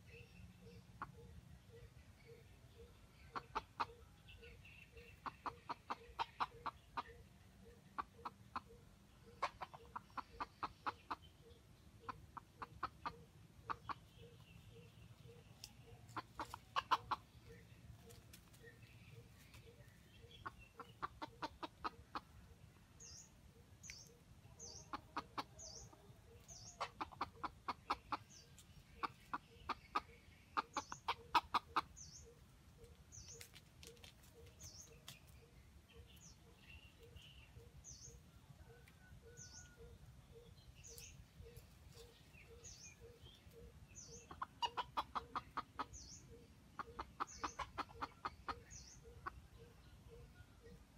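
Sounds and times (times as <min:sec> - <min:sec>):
junglefowl clucking: 0:00.6 - 0:35.2, 0:35.9 - 0:50.8.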